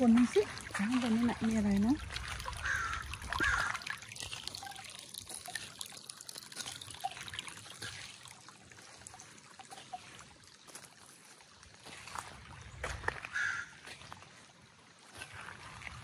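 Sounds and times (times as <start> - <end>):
creek trickling over stones: 0.0 - 16.0.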